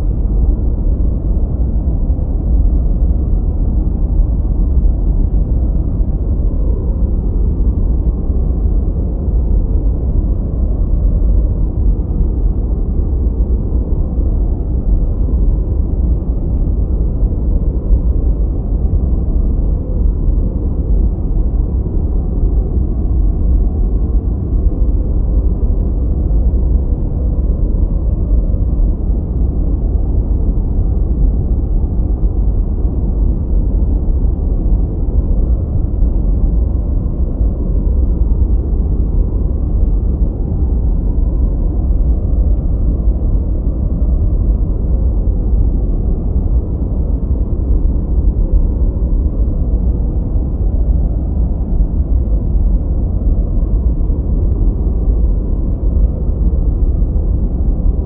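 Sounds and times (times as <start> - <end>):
deep rushing white noise: 0.0 - 58.0.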